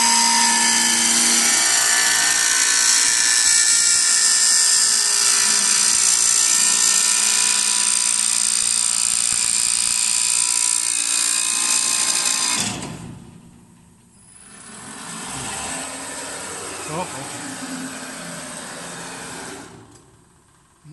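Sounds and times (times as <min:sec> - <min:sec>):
wood lathe whining: 0:00.0 - 0:12.8, 0:14.2 - 0:20.1.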